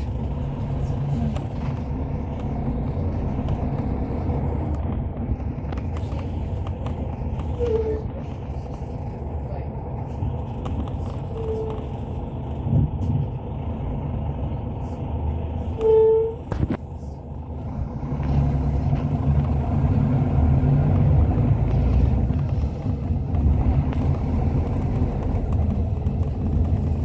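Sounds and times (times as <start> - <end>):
engine and road rumble: 0.0 - 27.0.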